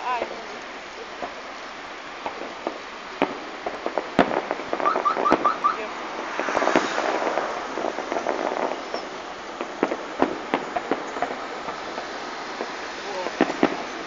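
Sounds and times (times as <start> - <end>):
firework bangs and pops: 0.0 - 14.0
firework crackle: 0.0 - 14.0.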